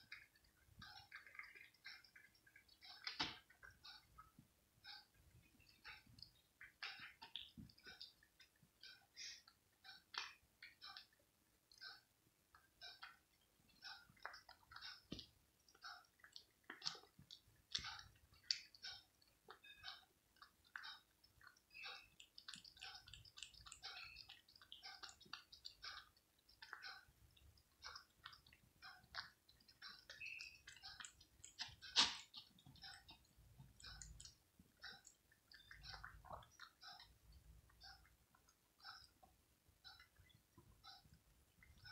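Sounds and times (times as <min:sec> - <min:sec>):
cat chewing wetly: 0:00.0 - 0:41.9.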